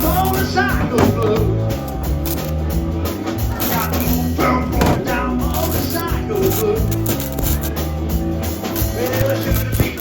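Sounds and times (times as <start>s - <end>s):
drums: 0.0s - 10.0s
live blues band playing: 0.0s - 10.0s.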